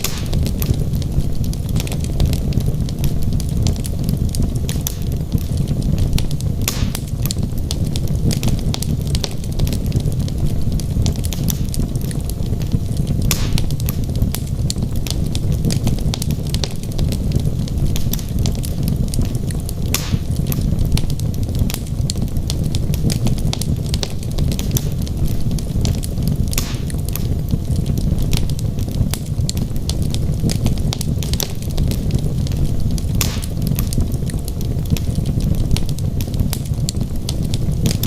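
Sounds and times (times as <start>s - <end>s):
flames rumbling: 0.0s - 38.0s
logs crackling and popping: 0.0s - 38.0s.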